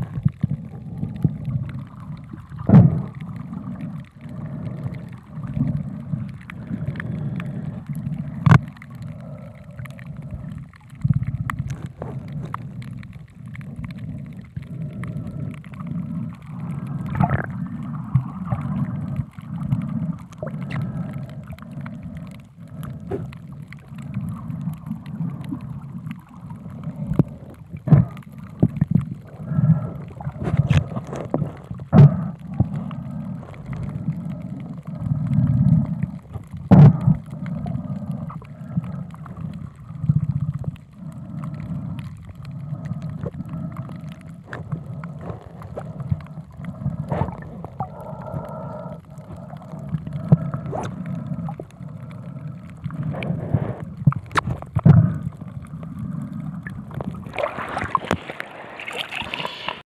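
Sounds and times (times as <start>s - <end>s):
underwater rumble of moving water: 0.0s - 59.8s.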